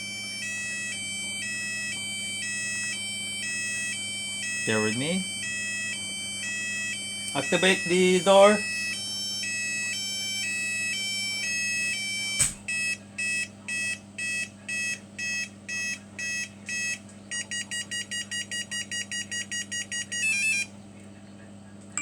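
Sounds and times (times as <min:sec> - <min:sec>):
alarm beeping: 0:00.0 - 0:20.7
alarm two-tone warble: 0:00.0 - 0:20.7.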